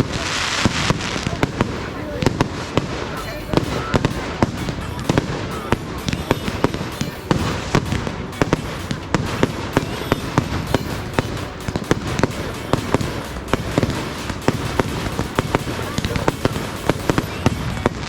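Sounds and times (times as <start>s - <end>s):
fireworks banging and cracking: 0.0s - 18.0s
steady rumbling: 0.0s - 18.0s.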